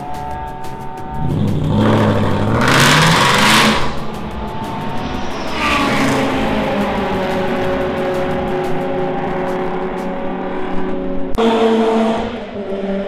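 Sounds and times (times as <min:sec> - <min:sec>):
race car accelerating past: 0:00.2 - 0:13.0.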